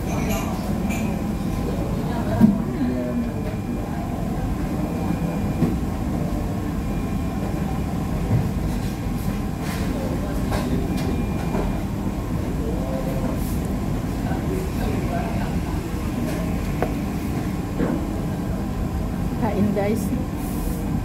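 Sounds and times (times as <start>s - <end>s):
restaurant background rumble: 0.0s - 21.0s.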